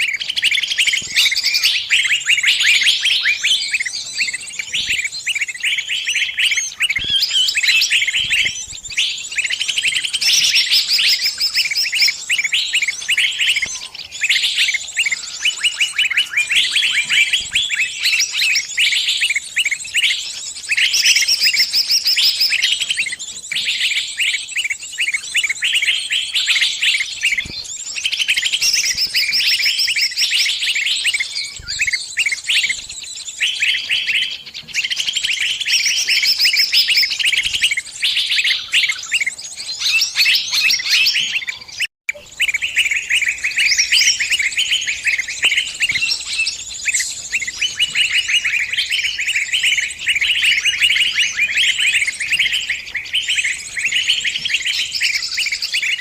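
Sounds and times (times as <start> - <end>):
small bird chirping rapidly: 0.0 - 56.0.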